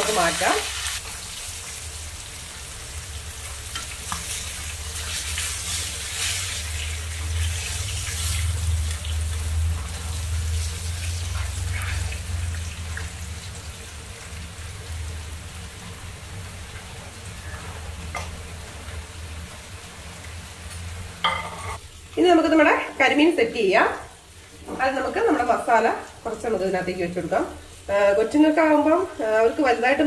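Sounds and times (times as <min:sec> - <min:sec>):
oil sizzling in a frying pan: 0:00.0 - 0:30.0.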